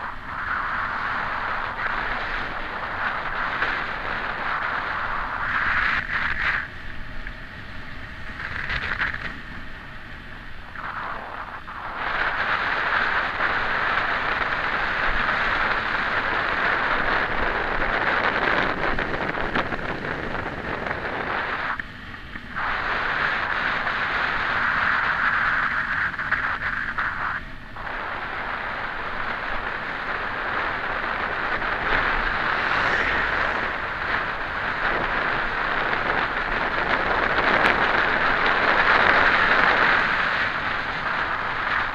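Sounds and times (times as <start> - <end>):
bike tyres on asphalt: 0.0 - 41.9
wind rushing on microphone: 0.0 - 41.9.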